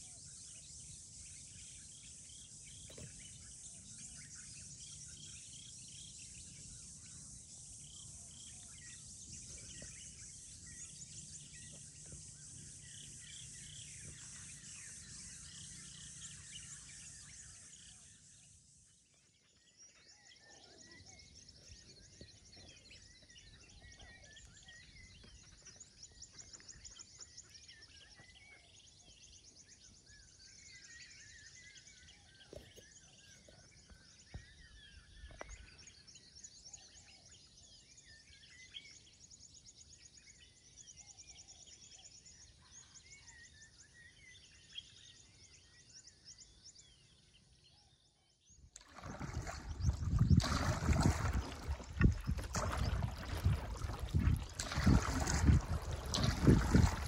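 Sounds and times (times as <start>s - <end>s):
faint birds chirping: 0.0s - 57.0s.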